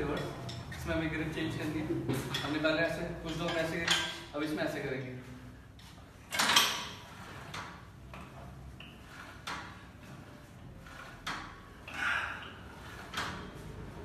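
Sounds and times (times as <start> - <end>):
weight stack and pulley clanking: 0.0 - 4.5, 6.2 - 14.0.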